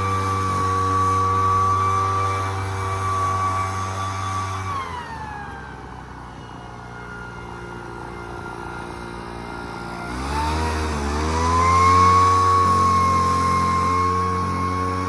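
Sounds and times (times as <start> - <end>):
leaf blower engine revving: 0.0 - 15.0.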